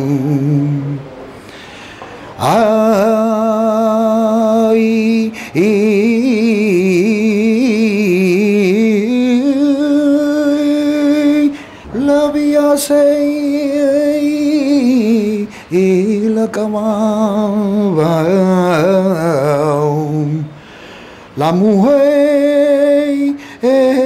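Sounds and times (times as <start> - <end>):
man singing unaccompanied: 0.0 - 1.1, 2.4 - 20.6, 21.3 - 24.0.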